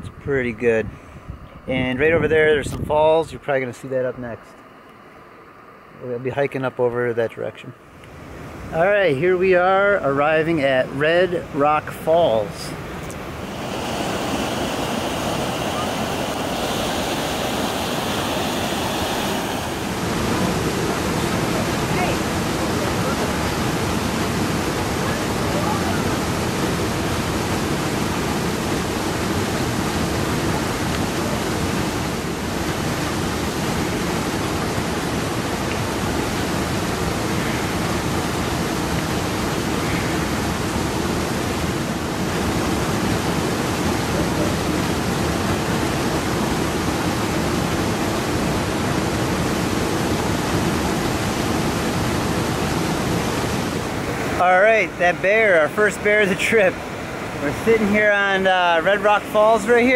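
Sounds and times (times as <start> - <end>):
waterfall rushing: 8.2 - 59.9.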